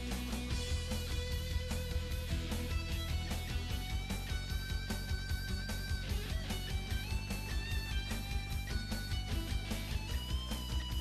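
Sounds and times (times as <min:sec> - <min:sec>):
rock music with guitar: 0:00.0 - 0:11.0
steady drum beat: 0:00.0 - 0:11.0.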